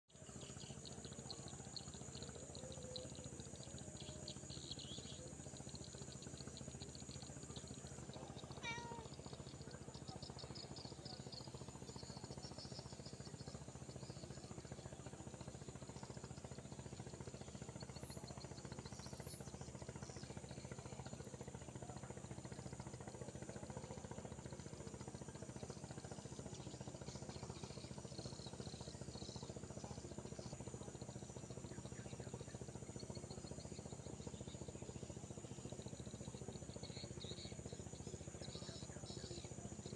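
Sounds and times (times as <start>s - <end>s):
insects chirping: 0.2s - 39.9s
steady low hum: 0.2s - 39.9s.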